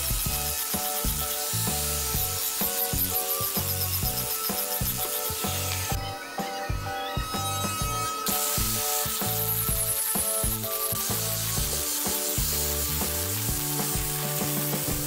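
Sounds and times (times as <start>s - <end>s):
angle grinder sanding wood: 0.0s - 15.0s.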